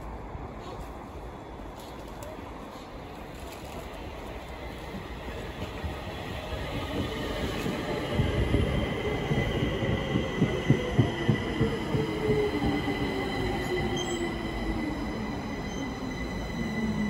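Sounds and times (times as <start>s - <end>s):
train whine: 2.8s - 17.0s.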